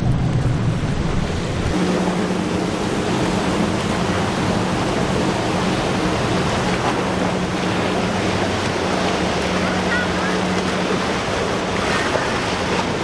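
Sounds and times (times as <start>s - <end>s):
boat engine hum: 0.0s - 13.0s
boat wake rushing: 0.0s - 13.0s.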